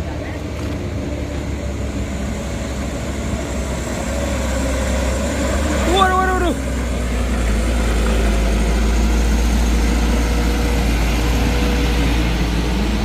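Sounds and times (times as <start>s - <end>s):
heavy truck engine rumbling: 0.0s - 13.0s.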